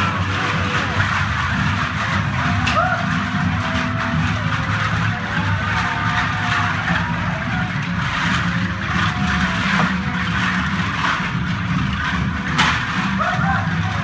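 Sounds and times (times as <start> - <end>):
rough low rumble: 0.0 - 14.0.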